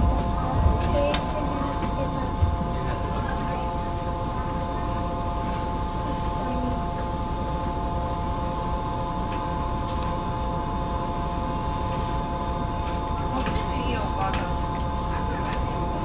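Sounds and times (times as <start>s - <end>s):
low train rumble: 0.0s - 16.0s
train electrical hum: 0.0s - 16.0s.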